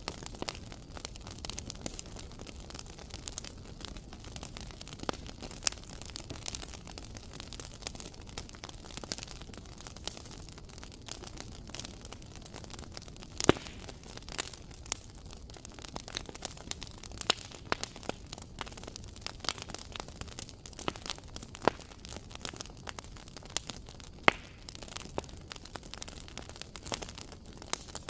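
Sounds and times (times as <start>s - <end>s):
loud fire pops: 0.0s - 28.0s
wood fire crackling: 0.0s - 28.0s.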